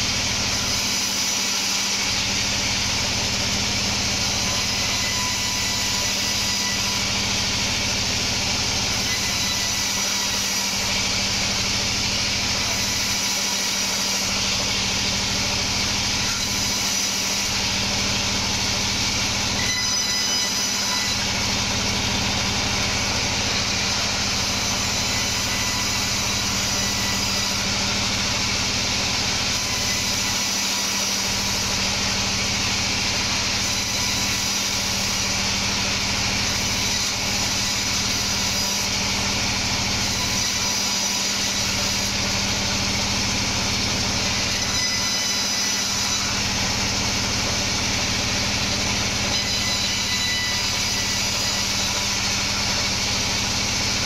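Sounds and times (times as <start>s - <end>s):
band saw machine hum: 0.0s - 54.0s
saw blade ripping wood: 0.0s - 54.0s.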